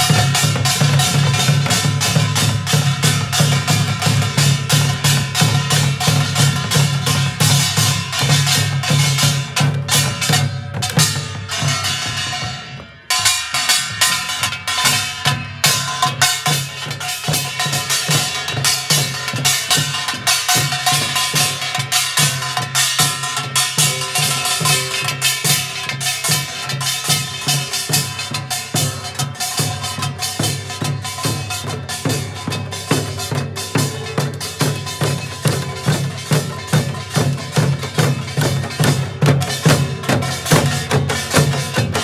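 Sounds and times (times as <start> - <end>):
barrel drums: 0.0 - 42.0
small hand drums: 0.0 - 42.0.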